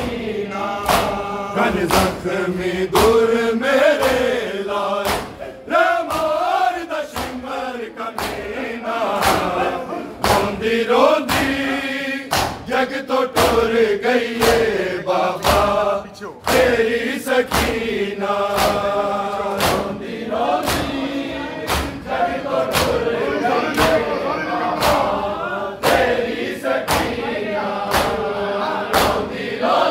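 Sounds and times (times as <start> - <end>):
crowd chest-beating slaps: 0.0 - 29.9
men chanting a lament: 0.0 - 29.9.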